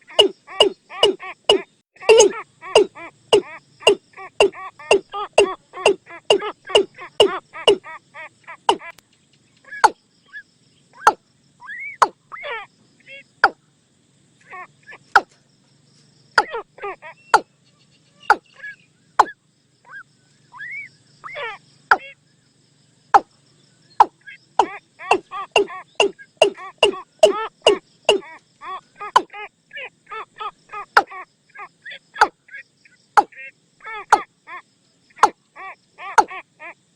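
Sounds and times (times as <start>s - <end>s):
watercock calls: 0.0s - 9.0s, 9.6s - 13.6s, 16.3s - 22.2s, 23.9s - 36.8s.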